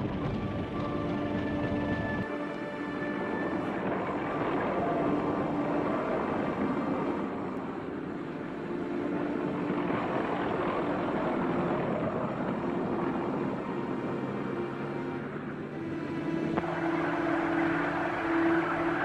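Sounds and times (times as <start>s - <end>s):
tracked vehicle engine droning: 0.0s - 19.0s.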